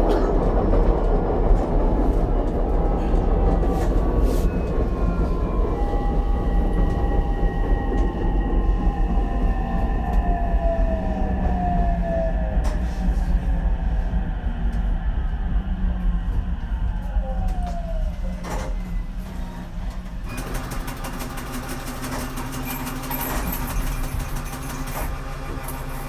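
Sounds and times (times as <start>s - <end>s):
train wheel and motor rumble: 0.0s - 26.0s.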